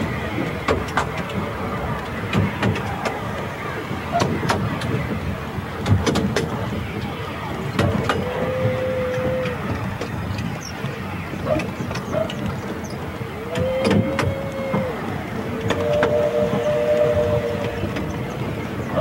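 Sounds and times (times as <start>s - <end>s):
train rumbling: 0.0s - 19.0s
wheels clacking on track: 0.0s - 19.0s.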